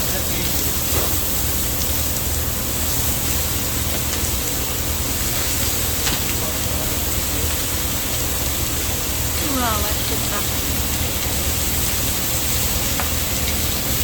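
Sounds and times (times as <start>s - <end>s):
meat sizzling on a griddle: 0.0s - 14.0s.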